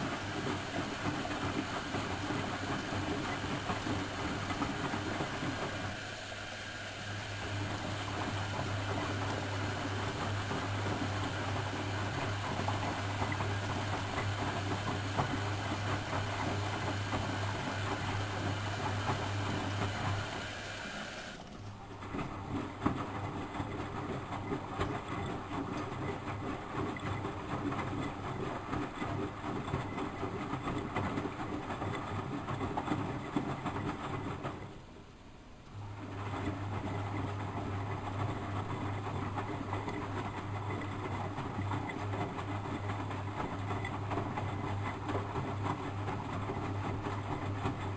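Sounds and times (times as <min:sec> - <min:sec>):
washing machine drum motor humming: 0:00.0 - 0:47.9.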